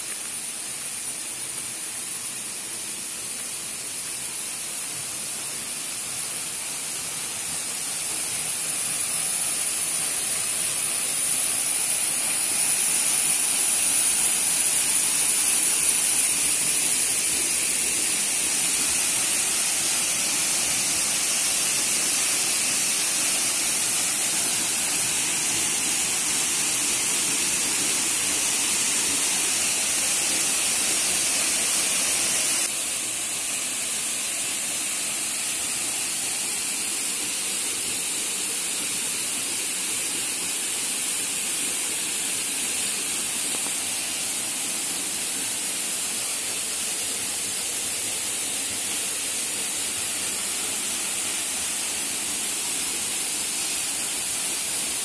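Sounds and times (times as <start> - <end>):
waterfall roaring onto rocks: 0.0 - 55.0.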